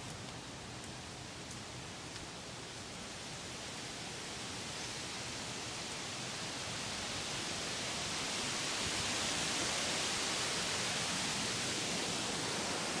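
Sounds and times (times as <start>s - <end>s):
rain falling hiss: 0.0s - 13.0s.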